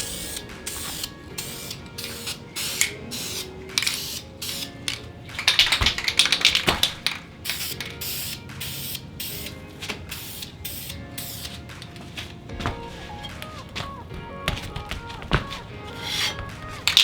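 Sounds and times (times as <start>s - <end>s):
spray can hissing: 0.0s - 17.0s.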